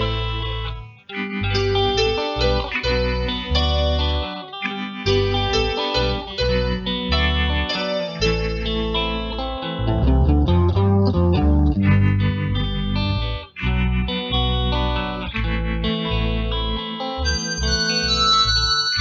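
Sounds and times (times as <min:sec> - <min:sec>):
electric guitar music with bass: 0:00.0 - 0:19.0.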